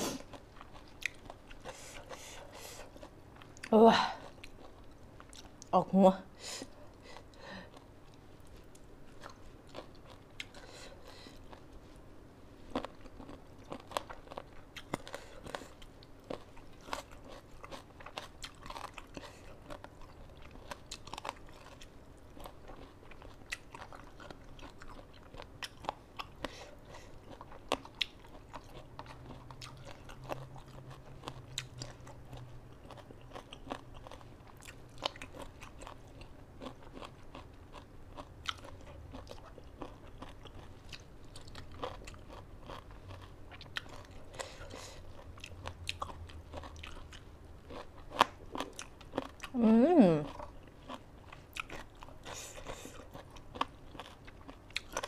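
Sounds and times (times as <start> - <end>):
person chewing crunchy food: 0.0 - 5.7, 6.7 - 55.0.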